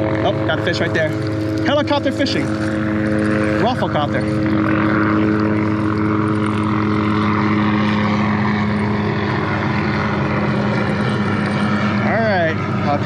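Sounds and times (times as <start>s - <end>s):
helicopter flying low: 0.0s - 13.0s.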